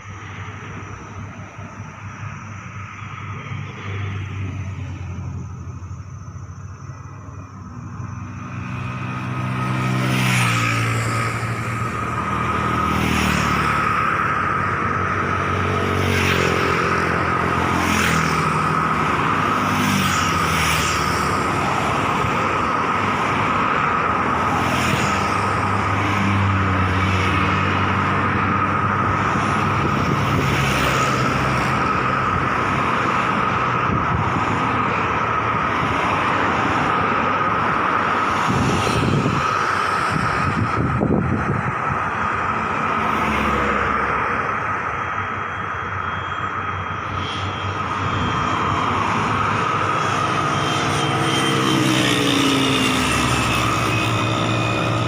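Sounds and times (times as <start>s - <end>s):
aircraft turbine engine running: 0.0s - 55.0s.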